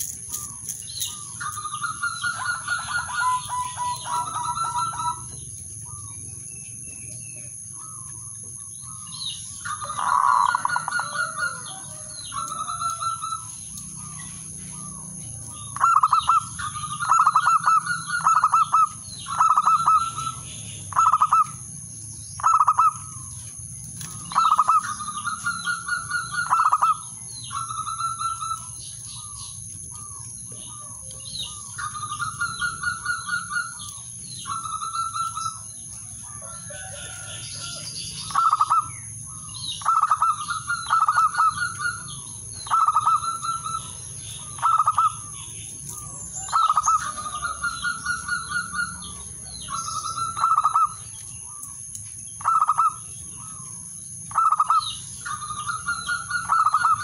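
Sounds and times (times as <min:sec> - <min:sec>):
dove cooing: 0:00.0 - 0:06.1, 0:07.4 - 0:21.6, 0:22.4 - 0:23.3, 0:24.0 - 0:51.6, 0:54.3 - 0:57.0.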